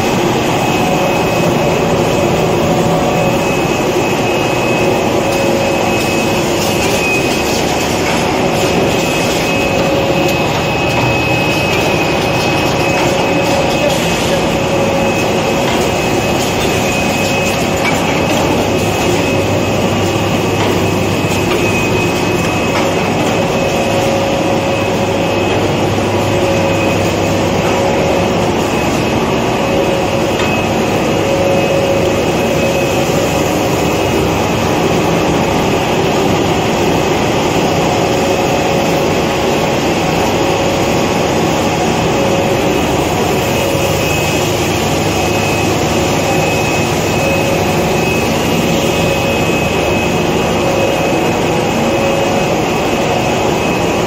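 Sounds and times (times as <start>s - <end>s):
faint machine whine: 0.0s - 54.0s
paper cutting machine running: 0.0s - 54.0s.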